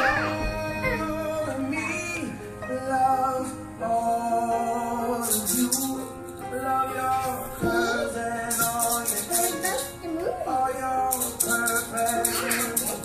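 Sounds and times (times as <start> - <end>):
piano ballad with singing: 0.0 - 13.0.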